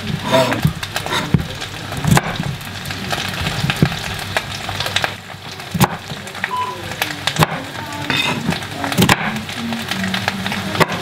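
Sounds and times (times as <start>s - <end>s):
crackling sizzle: 0.0s - 11.0s.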